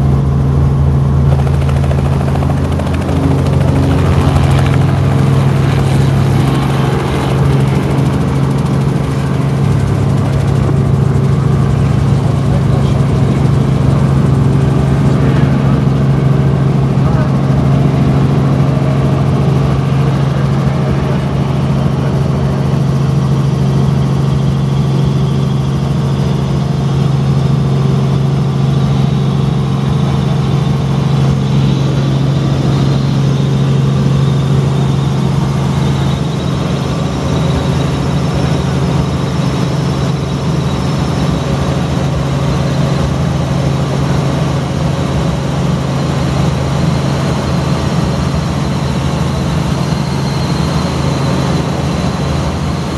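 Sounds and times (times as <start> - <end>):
helicopter engine and rotors: 0.0 - 52.9.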